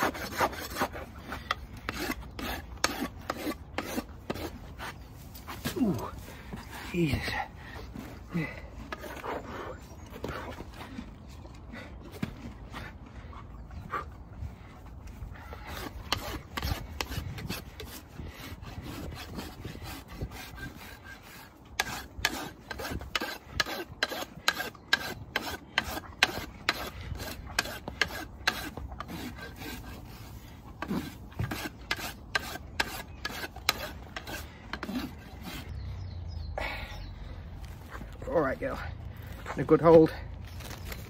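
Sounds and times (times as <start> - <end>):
hoof rasp scraping hoof: 0.0 - 35.8.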